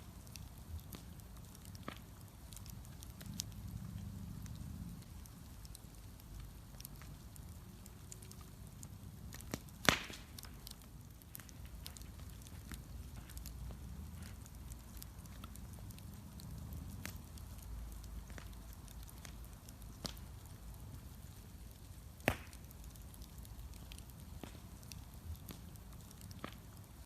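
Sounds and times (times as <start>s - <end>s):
bonfire crackling and popping: 0.0s - 27.0s
low steady rumble: 0.0s - 27.0s.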